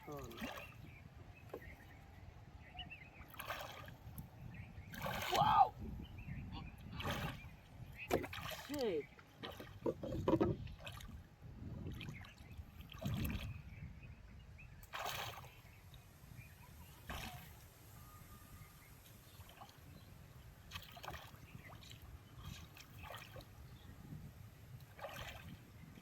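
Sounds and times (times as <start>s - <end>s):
water sloshing and splashing: 0.0s - 2.1s, 3.2s - 5.9s, 6.6s - 13.7s, 14.8s - 16.1s, 16.8s - 18.1s, 18.8s - 26.0s.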